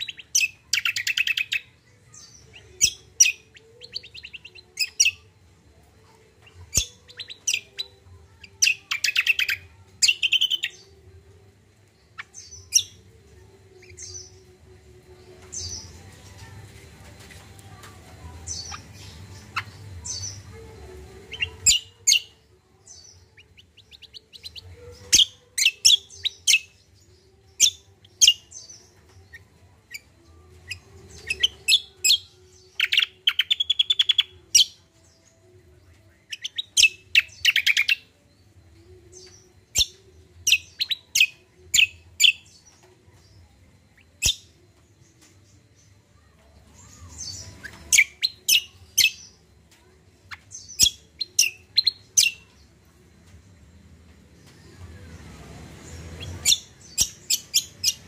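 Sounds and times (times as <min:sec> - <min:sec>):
songbird chirping and whistling: 0:00.0 - 0:58.0.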